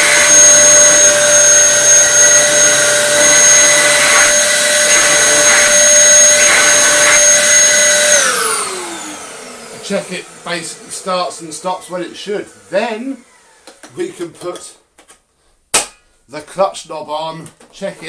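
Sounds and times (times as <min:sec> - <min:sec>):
vacuum cleaner motor whining: 0:00.0 - 0:14.5.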